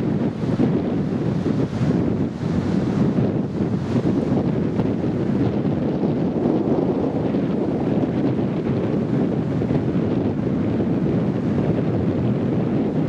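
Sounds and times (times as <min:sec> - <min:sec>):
surf breaking on beach: 0:00.0 - 0:13.0
wind on microphone: 0:00.0 - 0:13.0.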